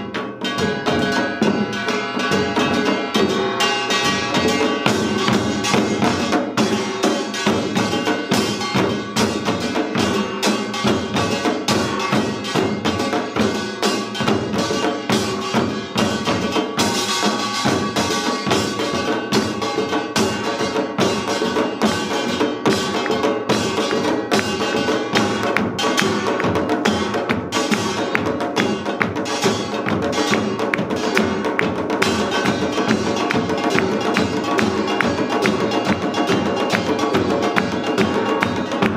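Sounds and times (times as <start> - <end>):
drums beating: 0.0 - 38.9
small gong metallic clanging: 0.0 - 38.9.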